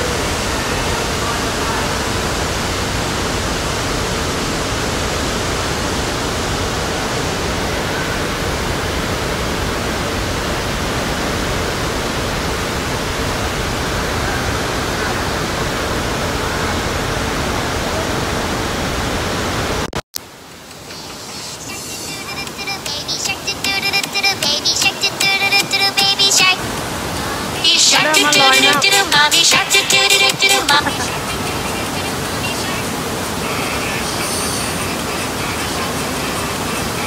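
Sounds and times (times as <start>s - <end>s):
churning water rushing: 0.0s - 37.0s.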